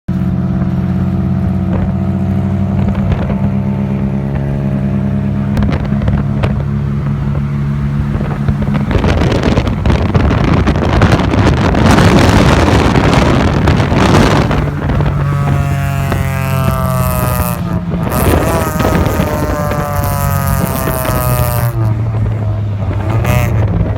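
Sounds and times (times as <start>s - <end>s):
car engine and exhaust cruising: 0.1s - 23.9s
wind noise: 0.1s - 23.9s.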